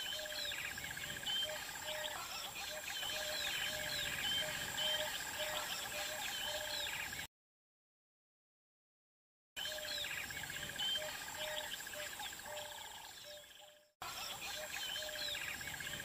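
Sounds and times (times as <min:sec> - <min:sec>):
insect trill: 0:00.0 - 0:07.3, 0:09.6 - 0:16.0
small birds chirping: 0:00.0 - 0:07.3, 0:09.6 - 0:16.0.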